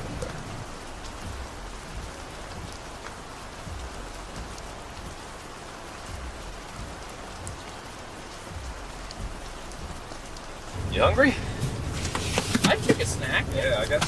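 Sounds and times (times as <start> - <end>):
rain on a car: 0.0 - 14.0
raindrop ticks: 0.0 - 14.0
road noise rumble: 0.0 - 14.0.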